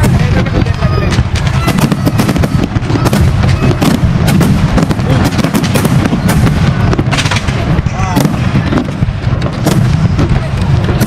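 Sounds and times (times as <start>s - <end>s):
crowd voices: 0.0s - 11.0s
fireworks bangs and crackles: 0.0s - 11.0s.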